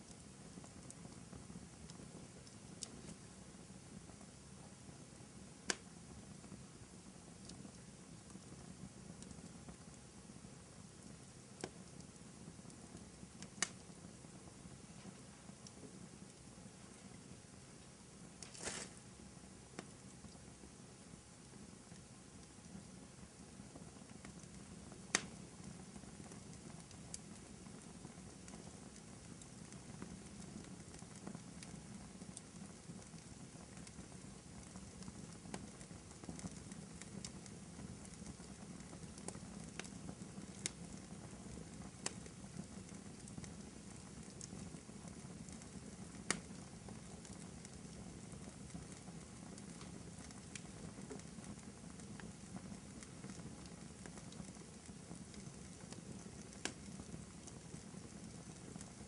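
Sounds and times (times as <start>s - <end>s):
fireplace crackling: 0.0s - 59.0s.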